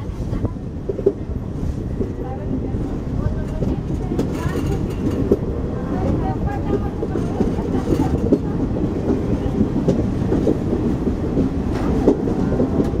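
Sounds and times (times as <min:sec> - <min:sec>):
rail joint clicks and knocks: 0:00.0 - 0:13.0
train wheels rumbling on rail: 0:00.0 - 0:13.0.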